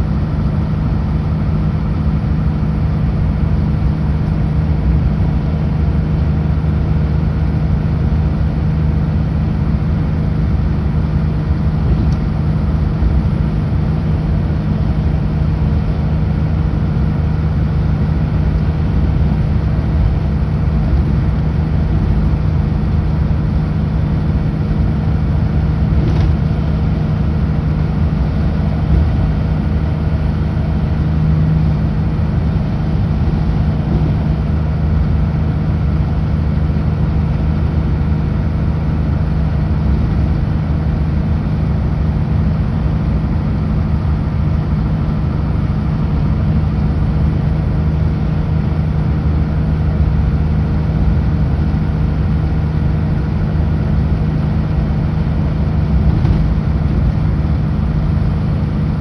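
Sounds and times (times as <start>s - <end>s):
road noise: 0.0s - 59.0s
truck diesel engine cruising: 0.0s - 59.0s.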